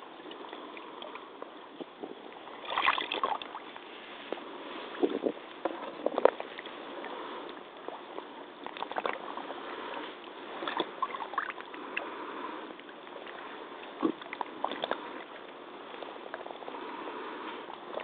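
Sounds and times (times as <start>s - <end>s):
wading through muddy water: 0.0s - 18.0s.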